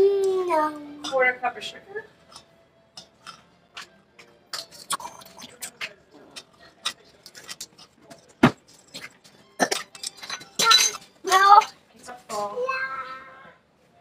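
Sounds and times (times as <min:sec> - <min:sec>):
kitchen utensils and dishes clicking: 0:01.0 - 0:12.5.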